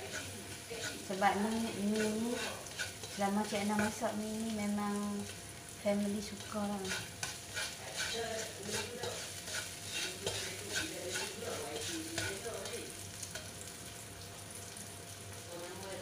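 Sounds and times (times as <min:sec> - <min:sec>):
stirring and tossing strokes: 0:00.0 - 0:05.5, 0:06.2 - 0:13.6
noodles sizzling in a wok: 0:00.0 - 0:16.0.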